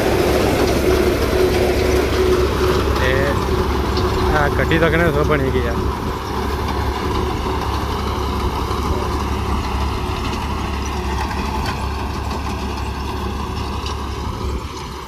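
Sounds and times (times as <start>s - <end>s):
machinery engine running: 0.0s - 15.0s.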